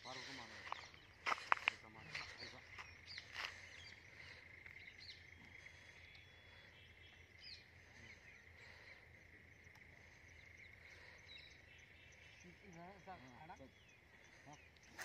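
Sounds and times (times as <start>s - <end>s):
bird chirps: 0.0s - 15.0s
high insect drone: 0.0s - 15.0s.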